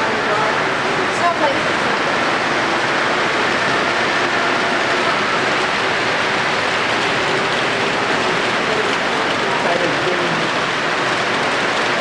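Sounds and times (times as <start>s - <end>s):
model train rolling whir: 0.0s - 12.0s.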